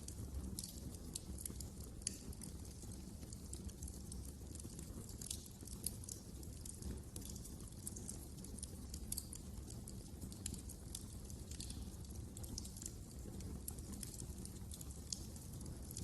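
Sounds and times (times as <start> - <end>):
low rumble of flames: 0.0 - 16.0
wood fire pops and snaps: 0.0 - 16.0.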